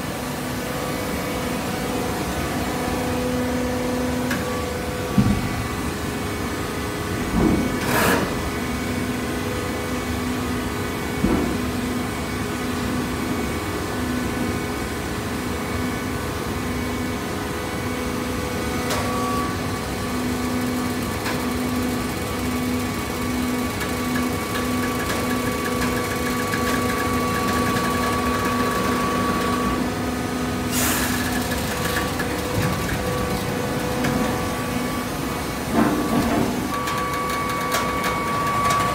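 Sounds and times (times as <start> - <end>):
motor and pump hum: 0.0 - 38.9.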